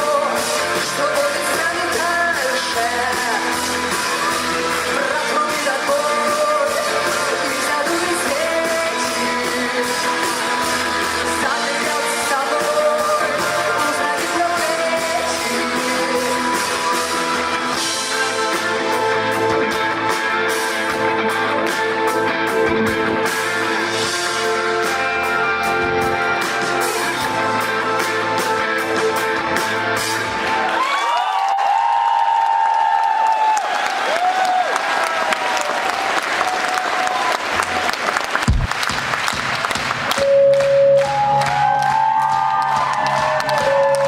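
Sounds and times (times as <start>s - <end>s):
live rock band playing: 0.0s - 30.8s, 38.4s - 44.0s.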